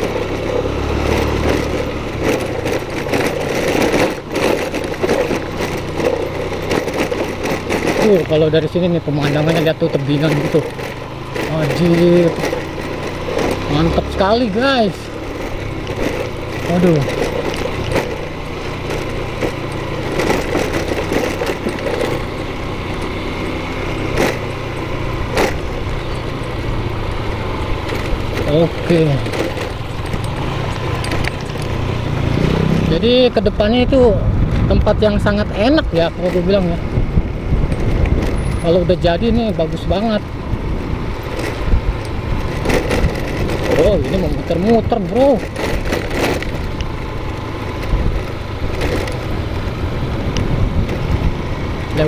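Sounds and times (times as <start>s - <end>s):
knocks and rattles from bumps: 0.0s - 52.0s
motorcycle engine running: 0.0s - 52.0s.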